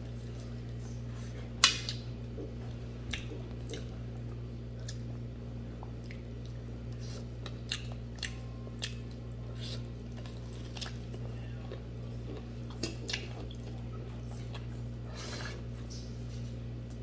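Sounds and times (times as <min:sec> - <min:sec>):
steady low hum: 0:00.0 - 0:17.0
person chewing: 0:00.4 - 0:16.1.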